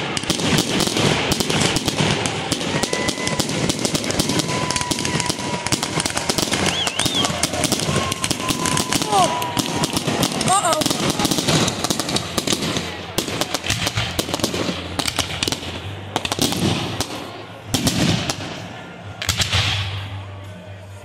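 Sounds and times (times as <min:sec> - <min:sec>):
fireworks popping and banging: 0:00.0 - 0:20.1
crackling firework stars: 0:00.0 - 0:20.6.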